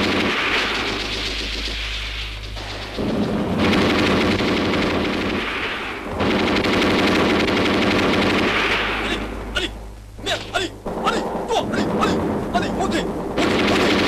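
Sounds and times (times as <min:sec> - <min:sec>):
machine-gun fire: 0:00.0 - 0:14.0
steady low rumble: 0:00.0 - 0:14.0.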